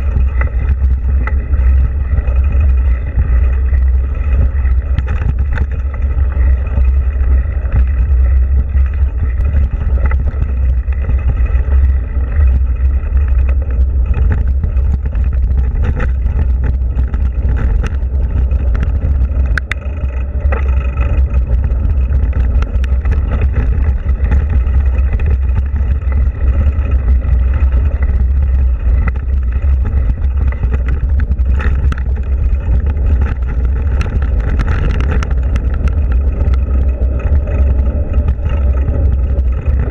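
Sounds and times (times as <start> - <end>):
bike clicks and rattles: 0.0 - 39.9
wind rumble on microphone: 0.0 - 39.9.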